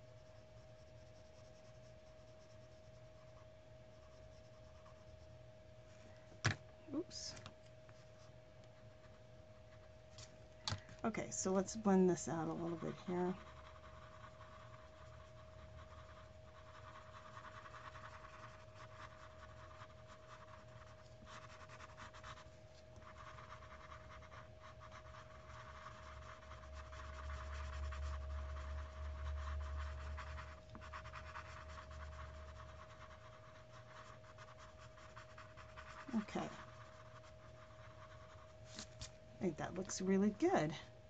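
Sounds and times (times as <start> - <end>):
pencil scratching on paper: 0.0 - 5.3, 11.3 - 40.4
faint steady hum: 0.0 - 41.0.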